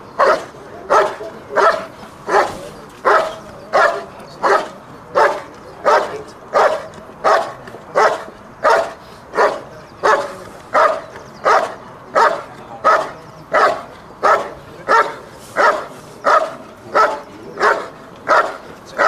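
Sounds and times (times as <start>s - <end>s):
dog barking: 0.2s - 19.0s.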